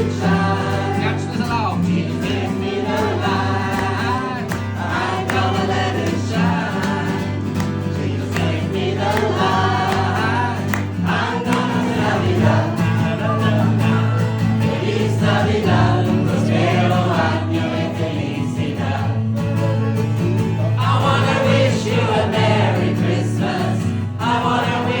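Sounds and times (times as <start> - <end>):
group singing together: 0.0 - 25.0.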